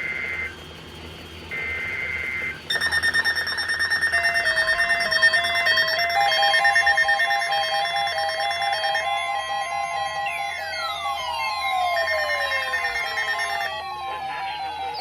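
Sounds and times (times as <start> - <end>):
pulsing electronic alert alarm: 0.0 - 15.0
harsh two-tone digital data burst: 1.5 - 15.0.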